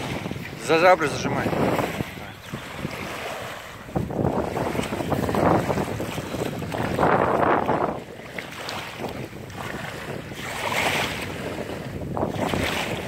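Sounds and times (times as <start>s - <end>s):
river water sloshing: 0.0s - 13.0s
wind buffeting microphone: 0.0s - 13.0s.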